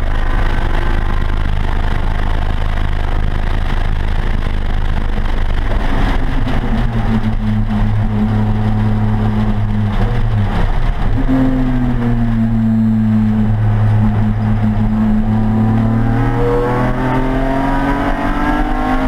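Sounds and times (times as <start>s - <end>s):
race car engine: 0.0s - 19.0s
wind noise in cabin: 0.1s - 19.0s.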